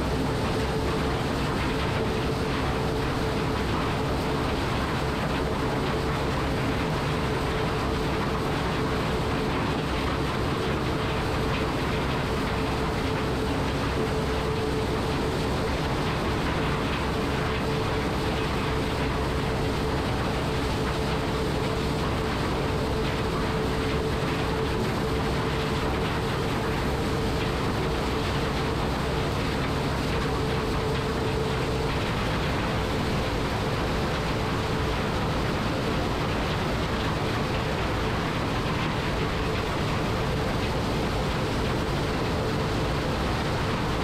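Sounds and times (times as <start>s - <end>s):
combine harvester mechanical drone: 0.0s - 44.0s
steady hum: 0.0s - 44.0s.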